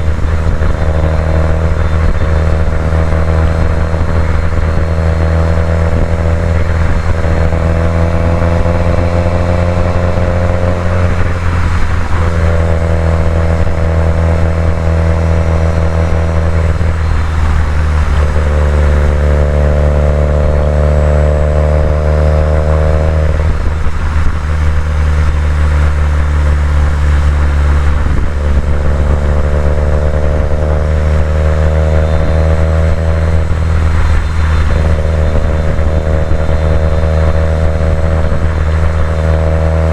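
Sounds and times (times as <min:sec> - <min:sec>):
car engine and exhaust running: 0:00.0 - 0:39.9.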